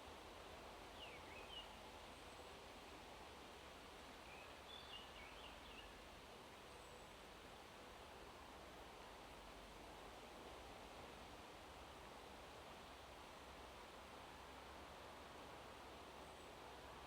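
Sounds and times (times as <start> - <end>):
wind through leaves: 0.0 - 17.0.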